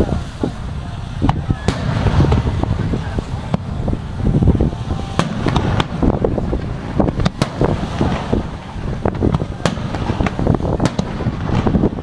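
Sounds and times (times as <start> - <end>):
fireworks bursting: 0.0 - 12.0
low rumble: 0.0 - 12.0.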